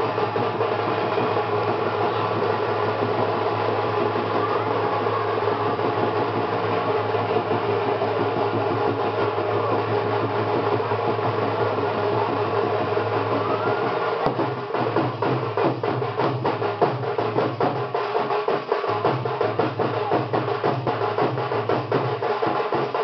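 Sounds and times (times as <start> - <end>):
drums beaten in a fast beat: 0.0 - 23.0.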